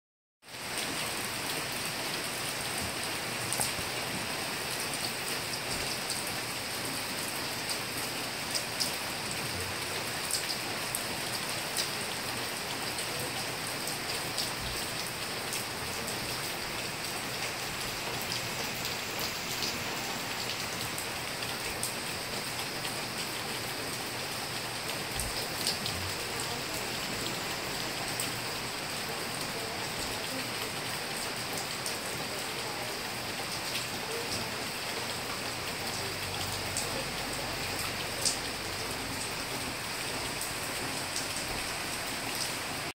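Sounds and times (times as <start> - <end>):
steady rain falling: 0.4 - 42.9.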